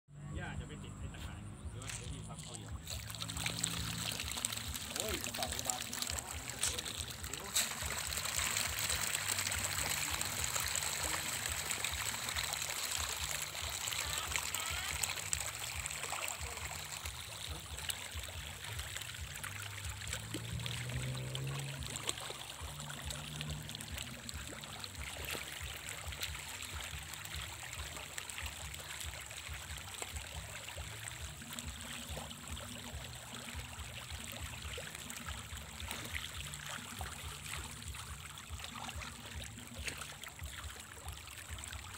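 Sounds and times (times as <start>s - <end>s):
fish splashing at the surface: 1.7s - 41.9s.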